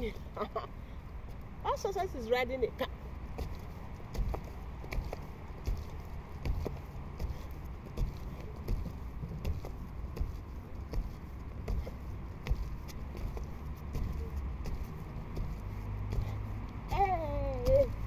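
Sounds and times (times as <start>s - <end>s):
trampoline mat knocking: 3.4s - 18.0s.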